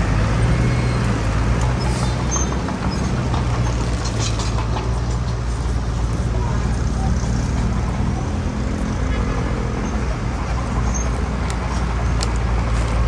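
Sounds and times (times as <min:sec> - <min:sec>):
diesel machinery drone: 0:00.0 - 0:13.0.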